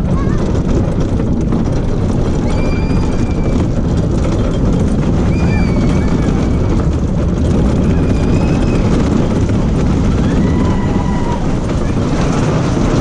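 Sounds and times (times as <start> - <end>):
coaster wheels rumbling on tubes: 0.0 - 13.0.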